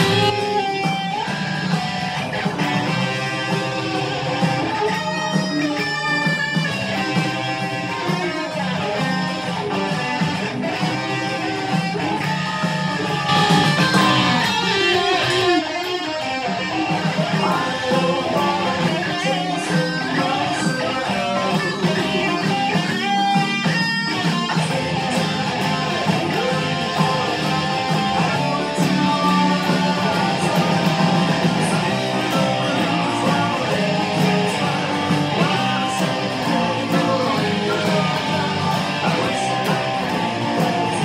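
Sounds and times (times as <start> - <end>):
heavy metal electric guitar: 0.0 - 41.0.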